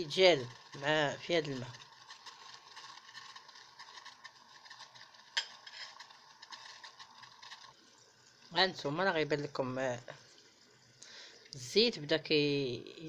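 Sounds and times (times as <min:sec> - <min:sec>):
oil crackling and bubbling: 0:00.0 - 0:13.0.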